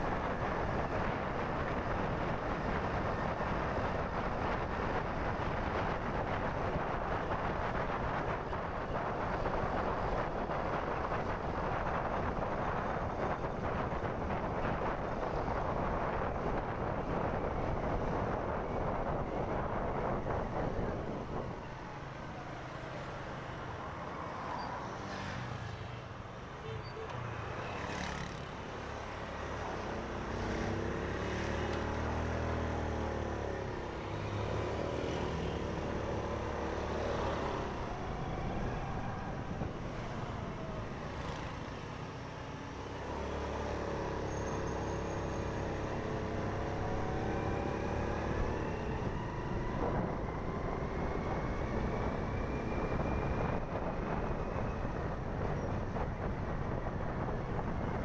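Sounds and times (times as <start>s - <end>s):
road and traffic rumble: 0.0s - 58.0s.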